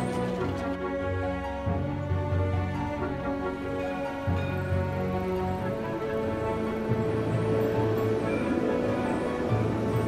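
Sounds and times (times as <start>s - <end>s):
slow sustained instrumental music: 0.0s - 10.0s.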